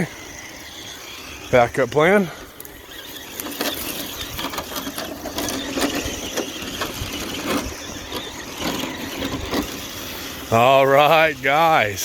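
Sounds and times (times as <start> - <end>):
toy truck drivetrain clicking: 0.0 - 12.0.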